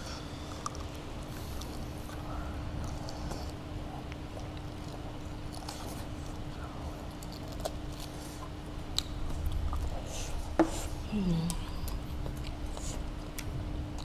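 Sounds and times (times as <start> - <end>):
people chewing food: 0.0 - 14.0
steady low hum: 0.0 - 14.0.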